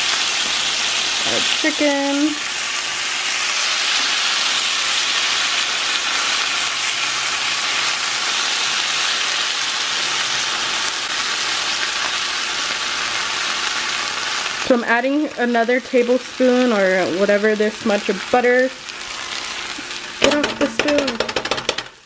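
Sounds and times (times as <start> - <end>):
chicken sizzling in butter: 0.0 - 22.0.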